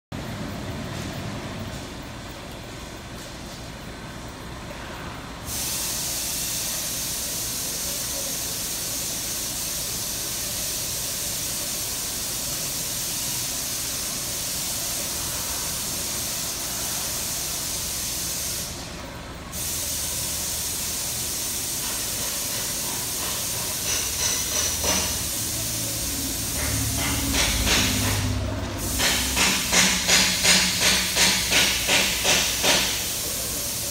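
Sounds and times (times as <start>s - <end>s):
conveyor belt hiss: 0.2s - 33.9s.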